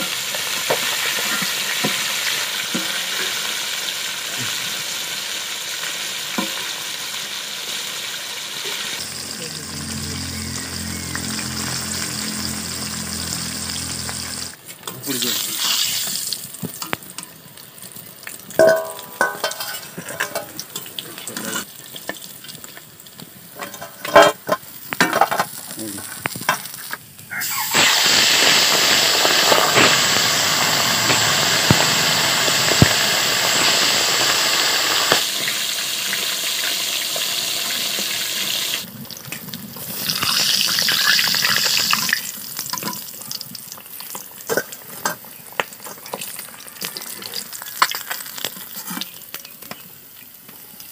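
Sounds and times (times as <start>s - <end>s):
fish sizzling in hot oil: 0.0s - 50.9s.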